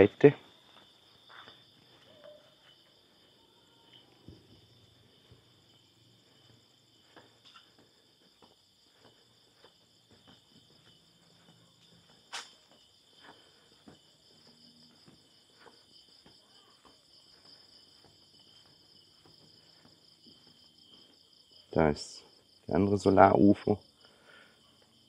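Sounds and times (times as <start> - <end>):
footsteps on paved path: 0.0 - 22.7
crickets trilling: 0.0 - 25.0.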